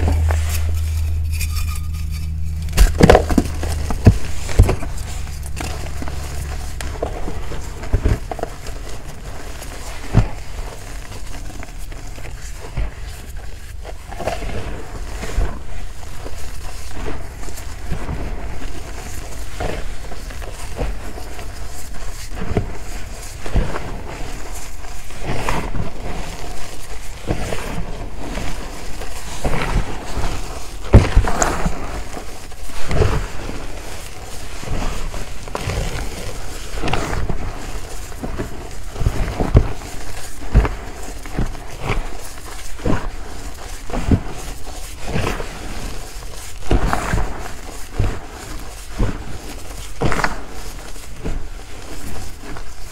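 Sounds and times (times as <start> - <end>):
hands crushing powdered chalk: 0.0 - 52.9.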